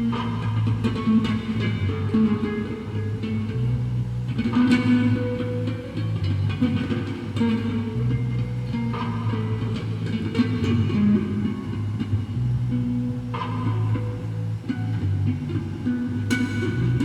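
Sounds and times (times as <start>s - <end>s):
solo bass guitar playing: 0.0s - 17.0s.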